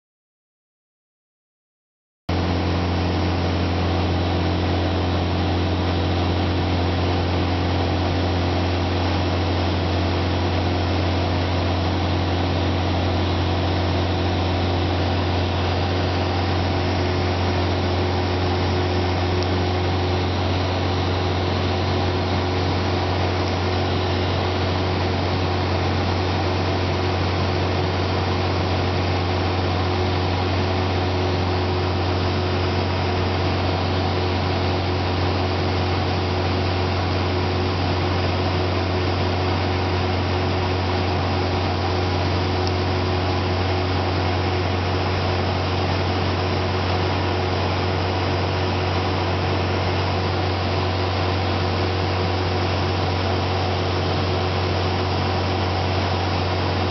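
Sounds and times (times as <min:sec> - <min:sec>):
light aircraft engine droning: 0:02.4 - 0:56.9.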